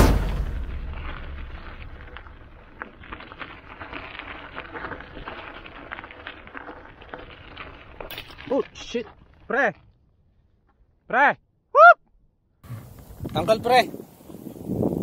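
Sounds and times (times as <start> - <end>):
bike tyres crunching on gravel: 0.0 - 11.0, 12.6 - 15.0.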